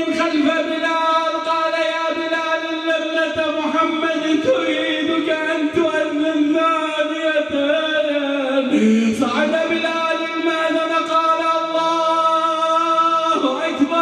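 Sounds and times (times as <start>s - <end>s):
man chanting mournfully: 0.0s - 14.0s.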